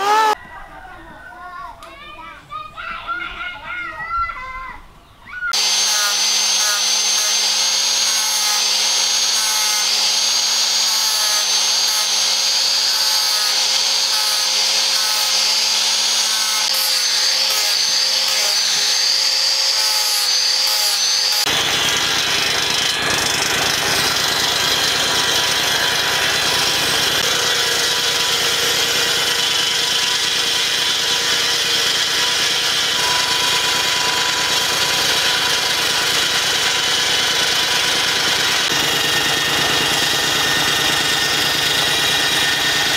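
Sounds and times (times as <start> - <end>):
angle grinder sanding wood: 0.0 - 0.4, 5.5 - 42.9
circular saw running: 0.0 - 0.4, 5.5 - 42.9.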